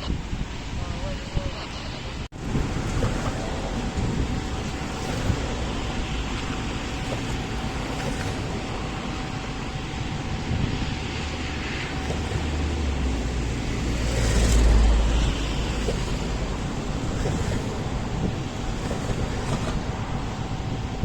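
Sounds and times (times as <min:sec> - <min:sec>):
traffic wash: 0:00.0 - 0:21.0
wind noise: 0:00.0 - 0:21.0
vehicle passing rumble: 0:02.3 - 0:21.0.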